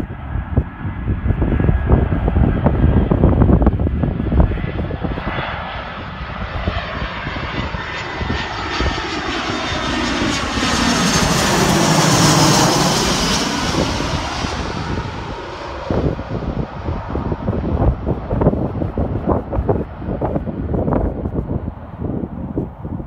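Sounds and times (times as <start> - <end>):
jet airliner passing overhead: 0.0 - 23.0
wind rumbling on microphone: 0.0 - 23.0.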